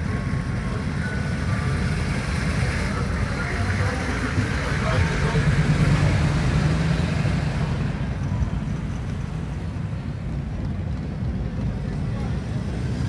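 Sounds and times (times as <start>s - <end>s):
street noise: 0.0s - 13.0s
vehicle engine humming: 0.0s - 13.0s.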